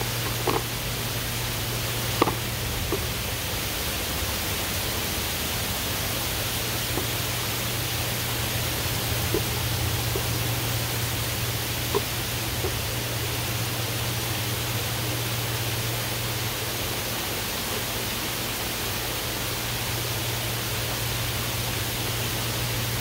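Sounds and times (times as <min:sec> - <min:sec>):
heavy rain on trees: 0:00.0 - 0:23.0.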